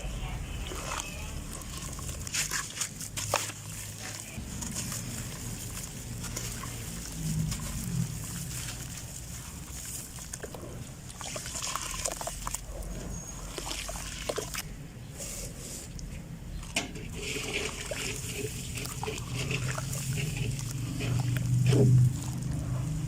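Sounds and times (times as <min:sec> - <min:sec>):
soft water splashes and trickles: 0:00.1 - 0:14.7, 0:15.6 - 0:23.0.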